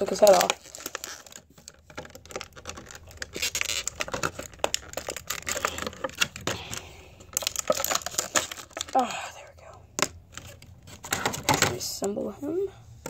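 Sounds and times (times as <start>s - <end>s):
plastic parts clicking and scratching: 0.0s - 9.1s, 10.0s - 12.2s.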